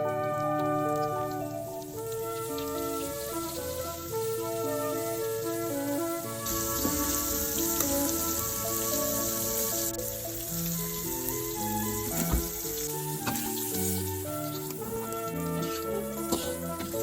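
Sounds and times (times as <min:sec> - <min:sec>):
food sizzling in hot oil: 0:00.0 - 0:17.0
gentle background music: 0:00.0 - 0:17.0.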